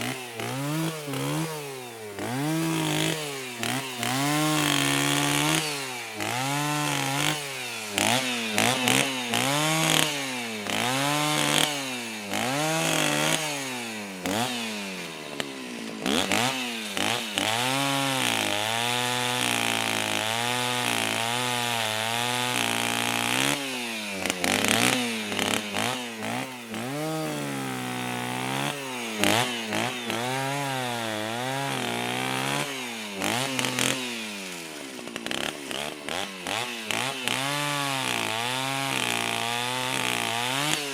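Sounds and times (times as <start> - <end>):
chainsaw engine revving: 0.0 - 40.9.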